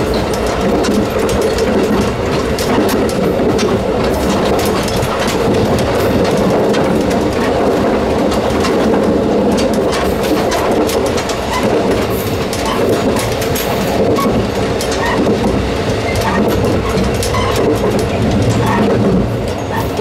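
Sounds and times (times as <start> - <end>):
railcar engine and wheels drone: 0.0 - 20.0
sharp clicks and rattles: 0.0 - 20.0.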